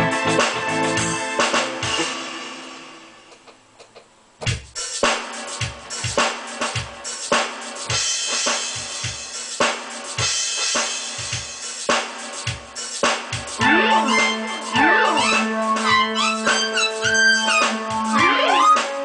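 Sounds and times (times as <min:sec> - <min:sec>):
drum kit playing a steady beat: 0:00.0 - 0:19.0.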